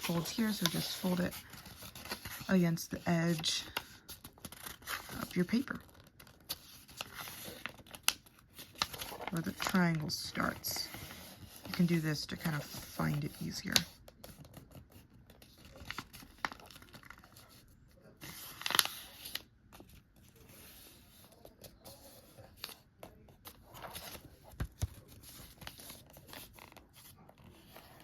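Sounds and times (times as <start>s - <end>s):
paper being folded and creased: 0.0s - 28.0s.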